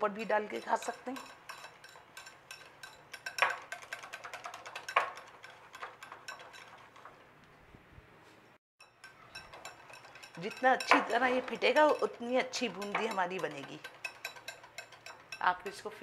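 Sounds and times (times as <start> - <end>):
whisk clinking against glass bowl: 0.4 - 7.1, 8.8 - 15.8.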